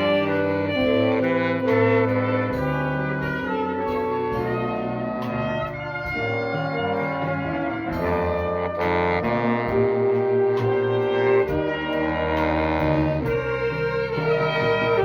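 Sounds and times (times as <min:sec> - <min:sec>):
brass section: 0:00.0 - 0:15.0
jazz band playing held chords: 0:00.0 - 0:15.0.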